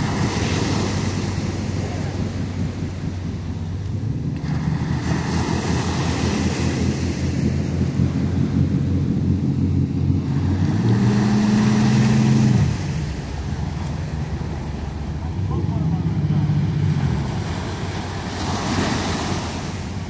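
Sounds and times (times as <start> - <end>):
outboard motor running: 0.0 - 20.0
small waves washing on beach: 0.0 - 20.0.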